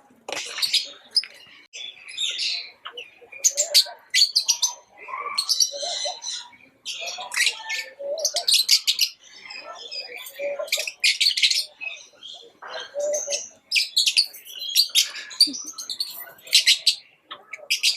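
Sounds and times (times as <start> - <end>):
lovebirds chirping: 0.2 - 17.9.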